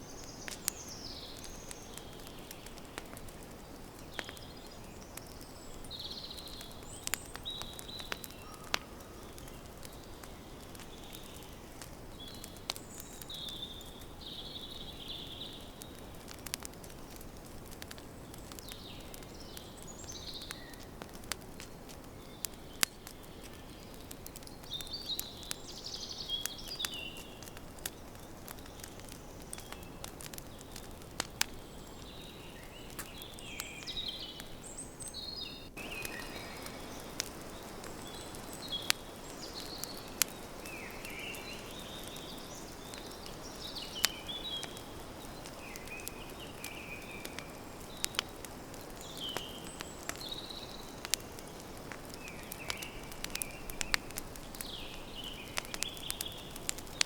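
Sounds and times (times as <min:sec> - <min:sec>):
birds chirping: 0:00.0 - 0:21.4, 0:22.0 - 0:57.0
campfire crackling: 0:00.0 - 0:57.0.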